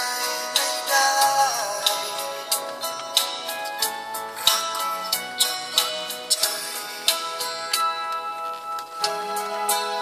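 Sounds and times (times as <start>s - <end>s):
music on car stereo: 0.0s - 10.0s.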